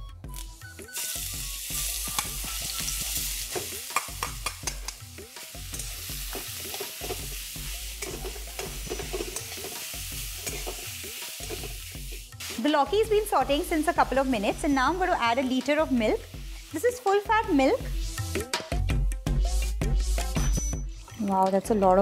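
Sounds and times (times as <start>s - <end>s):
food sizzling in ghee: 0.3s - 18.5s.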